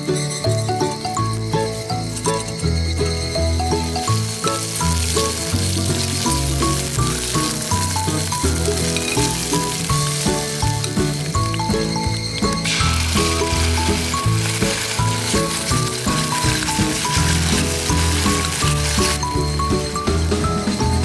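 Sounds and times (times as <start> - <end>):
background music with plucked melody: 0.0 - 21.0
food sizzling in a pan: 0.0 - 21.0.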